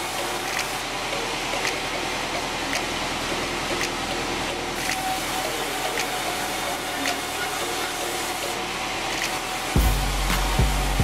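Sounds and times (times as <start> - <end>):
band saw running: 0.0 - 11.0.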